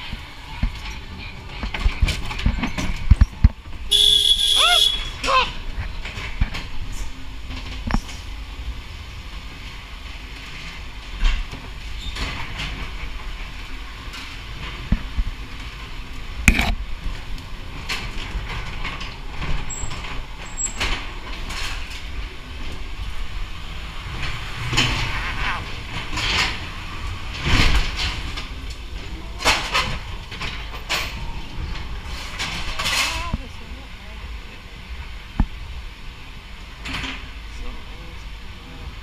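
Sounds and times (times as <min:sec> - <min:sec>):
ride car rumbling along track: 0:00.0 - 0:39.0.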